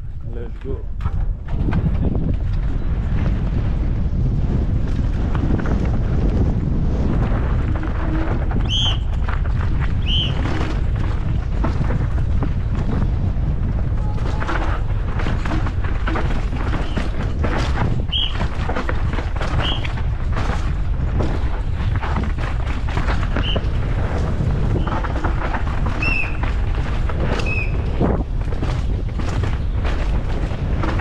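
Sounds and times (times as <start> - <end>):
bike rattling and knocking: 0.0 - 31.0
wind buffeting microphone: 0.0 - 31.0
tyres on dirt: 0.4 - 31.0.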